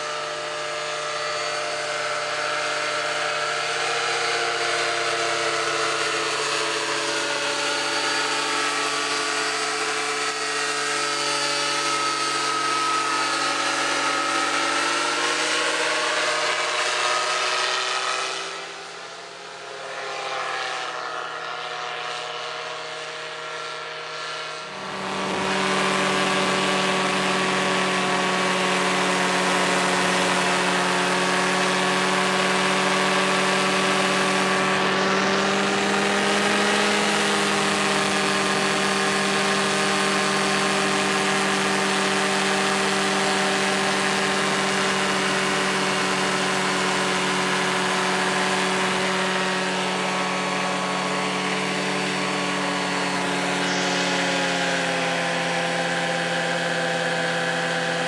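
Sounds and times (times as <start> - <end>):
paramotor engine droning: 0.0 - 58.0.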